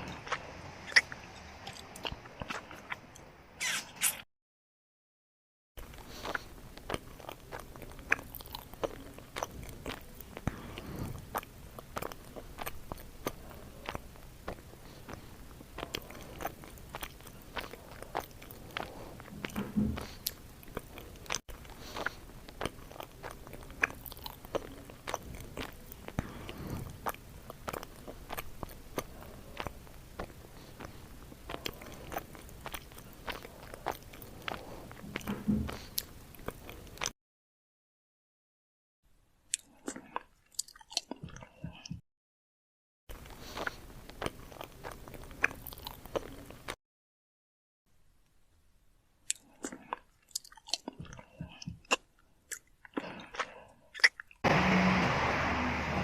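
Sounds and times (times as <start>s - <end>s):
chewing and biting: 0.0s - 3.3s, 5.8s - 37.1s, 39.5s - 42.0s, 43.1s - 46.8s, 49.2s - 54.6s.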